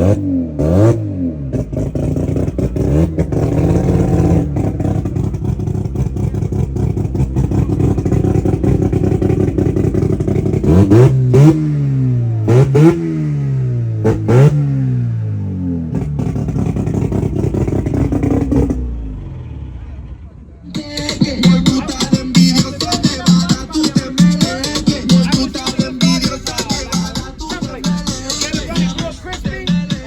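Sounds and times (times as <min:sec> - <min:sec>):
race car engine idling and revving: 0:00.0 - 0:30.0.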